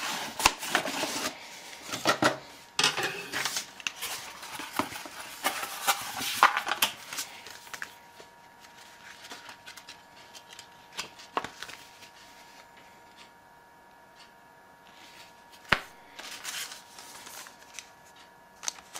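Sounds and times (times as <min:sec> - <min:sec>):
cardboard and paper rustling: 0:00.0 - 0:02.5, 0:03.2 - 0:12.7, 0:15.0 - 0:18.9.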